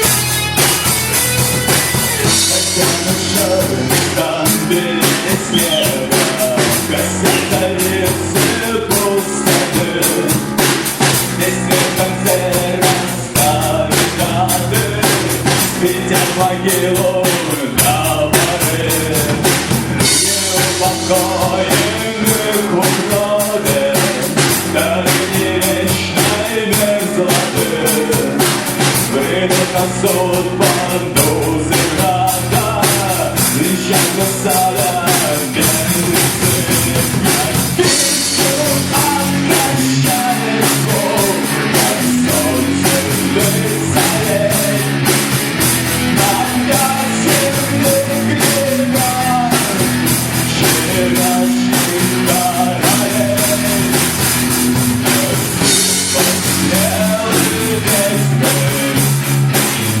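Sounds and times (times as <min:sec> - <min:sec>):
drum kit fast beat: 0:00.0 - 1:00.0
rock band playing live: 0:00.0 - 1:00.0.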